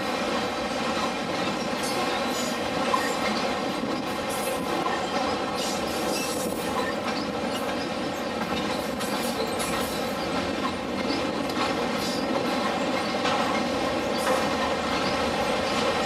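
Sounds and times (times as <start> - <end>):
steel wheels rumbling on rail: 0.0 - 16.0
train cars rattling: 0.0 - 16.0.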